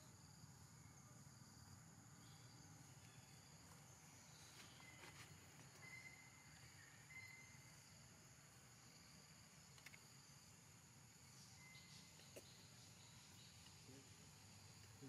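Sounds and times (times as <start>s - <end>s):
faint insect chirring: 0.0s - 15.0s.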